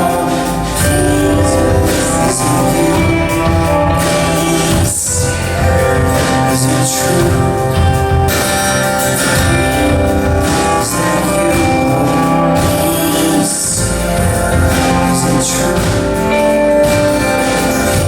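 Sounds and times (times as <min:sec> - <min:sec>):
live band playing instrumental: 0:00.0 - 0:18.0.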